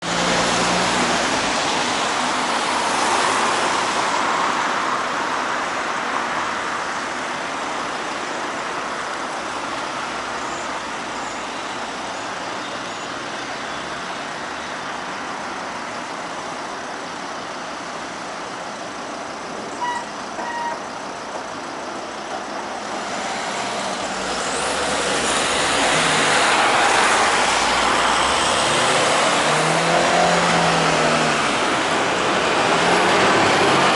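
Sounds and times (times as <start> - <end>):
traffic driving by: 0.0 - 33.9.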